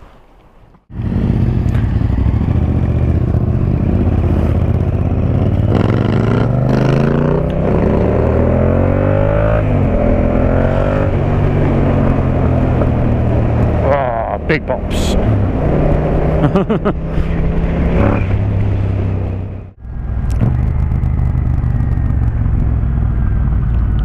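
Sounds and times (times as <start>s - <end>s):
motorcycle engine accelerating: 0.9s - 24.0s.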